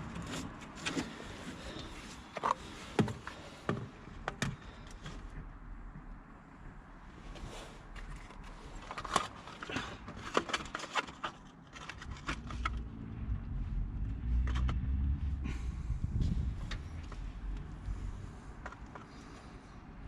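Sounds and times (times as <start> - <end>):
low rumble of handling noise: 0.0 - 20.0.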